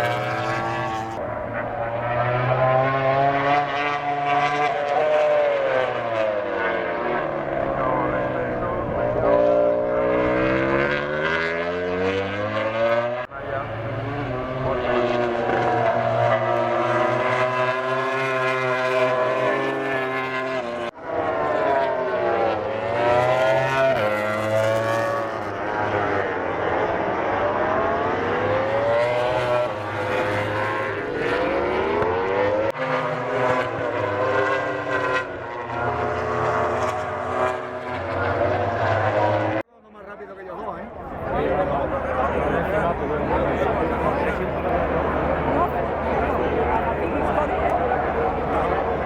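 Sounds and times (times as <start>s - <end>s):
racing motorcycles passing: 0.0s - 39.7s, 40.5s - 49.0s.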